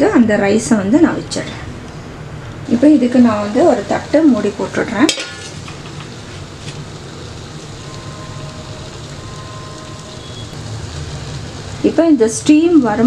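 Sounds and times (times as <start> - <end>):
pot hissing on gas flame: 0.4 - 13.0.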